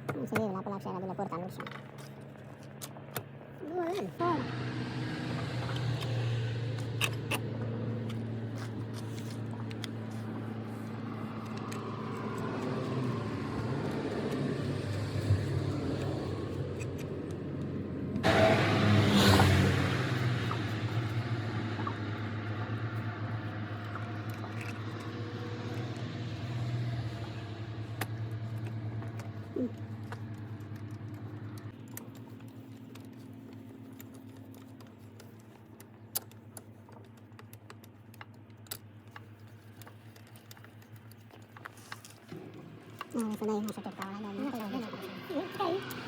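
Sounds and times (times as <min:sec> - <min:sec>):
vehicle engine droning: 0:00.0 - 0:35.6, 0:38.7 - 0:46.0.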